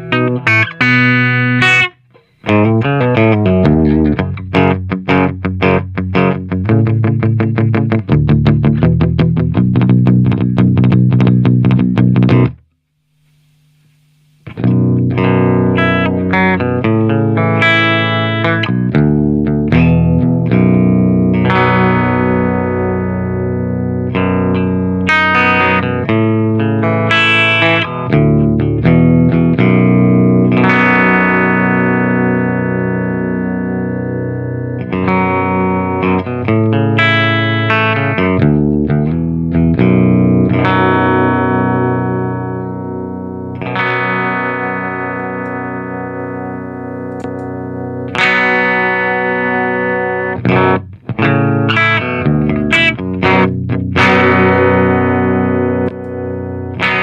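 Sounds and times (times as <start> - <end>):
distorted electric guitar chords: 0.0 - 57.0.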